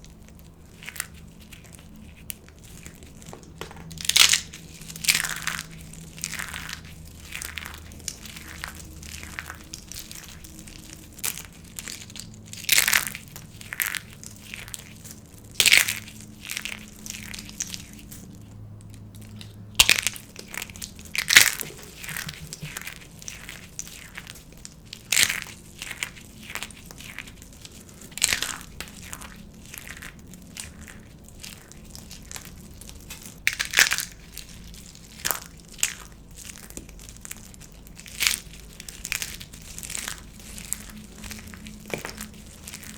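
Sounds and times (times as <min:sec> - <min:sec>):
dry soap crunching and cracking: 0:00.0 - 0:42.9.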